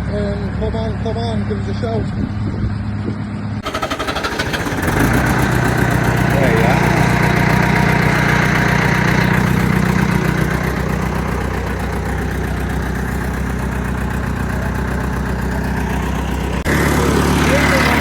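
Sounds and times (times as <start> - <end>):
diesel engine idling: 3.5 - 18.0.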